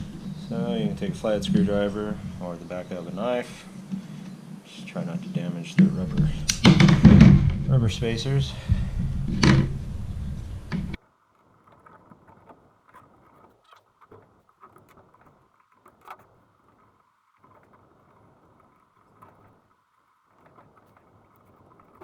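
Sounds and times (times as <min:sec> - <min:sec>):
faint clicks and scrapes: 0:00.0 - 0:22.0.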